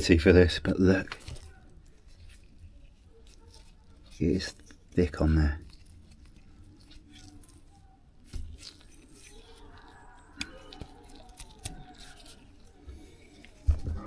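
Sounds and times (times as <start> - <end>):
light clicks and scrapes: 0.7 - 14.0.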